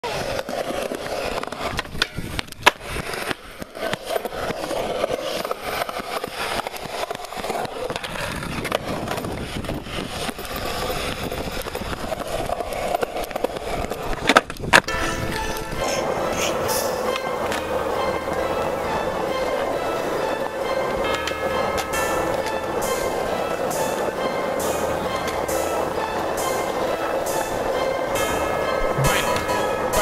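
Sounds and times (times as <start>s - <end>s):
skateboard clacks: 0.0s - 30.0s
skateboard wheels rolling on concrete: 0.0s - 30.0s.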